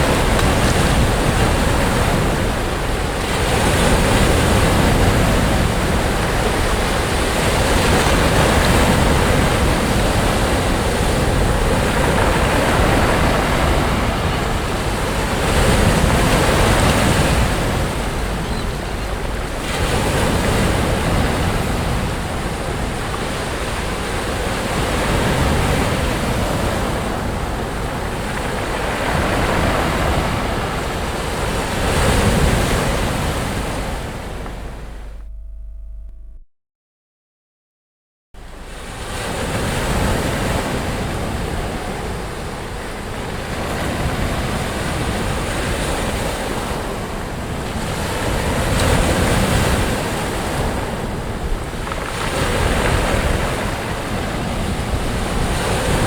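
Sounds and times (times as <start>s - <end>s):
sea waves breaking on beach: 0.0s - 35.0s, 38.4s - 56.0s
wind rumble on microphone: 0.0s - 36.4s, 38.4s - 56.0s.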